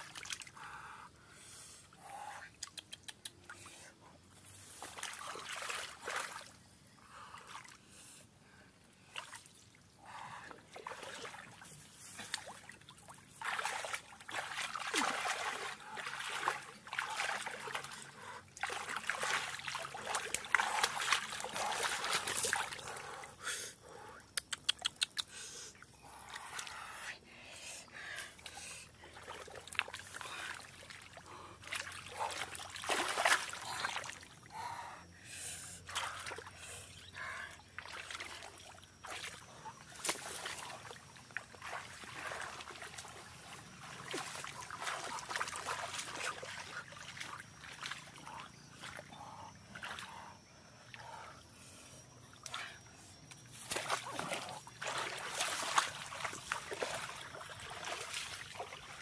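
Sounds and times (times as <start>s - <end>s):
water splashing and trickling: 0.0s - 0.6s, 2.6s - 23.3s, 28.0s - 34.7s, 35.9s - 59.0s.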